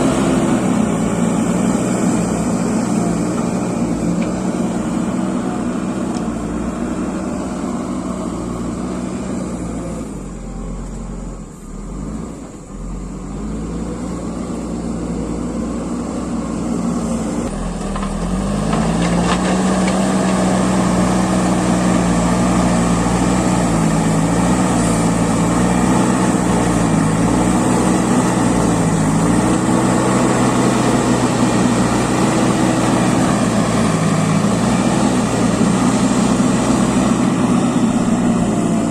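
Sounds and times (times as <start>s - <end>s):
diesel engine under changing load: 0.0s - 38.9s.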